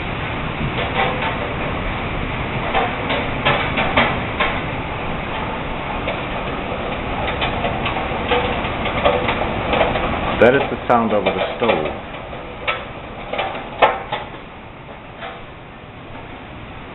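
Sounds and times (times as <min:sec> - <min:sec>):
steady rushing noise: 0:00.0 - 0:16.9
range hood rattling knocks: 0:00.6 - 0:15.6.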